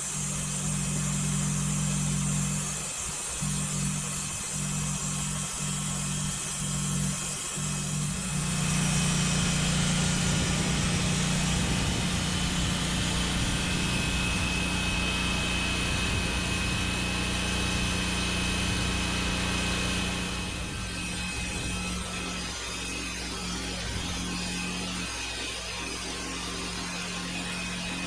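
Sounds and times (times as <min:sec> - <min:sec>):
high-pitched motor whine: 0:00.0 - 0:28.0
machine motor humming: 0:00.0 - 0:28.0.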